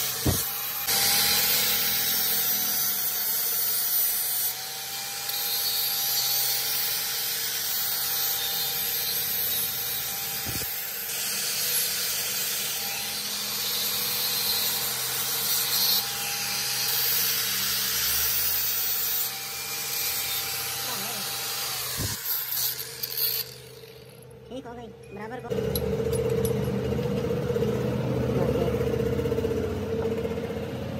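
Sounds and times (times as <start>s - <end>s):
angle grinder grinding metal: 0.0s - 29.4s.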